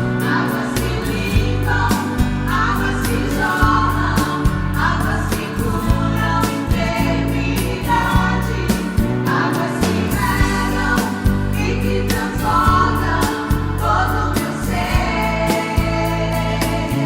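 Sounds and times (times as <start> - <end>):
gospel band with vocals: 0.0 - 17.0.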